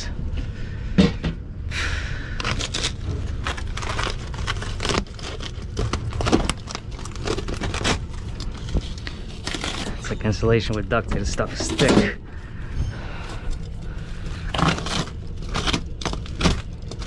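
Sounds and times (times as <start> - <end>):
insulation tearing and crinkling: 2.4 - 17.0.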